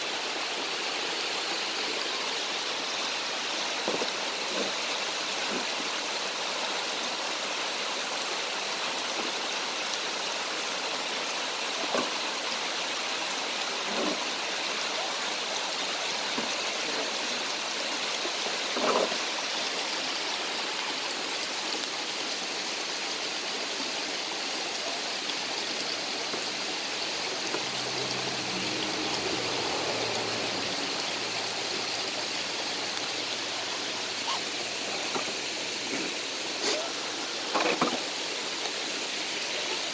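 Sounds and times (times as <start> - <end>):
creek and waterfall rushing: 0.0 - 39.9.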